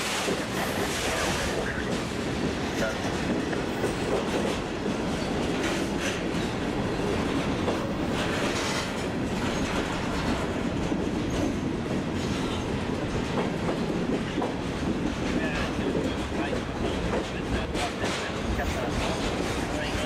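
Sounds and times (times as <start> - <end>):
train wheels clacking over joints: 0.0 - 20.0.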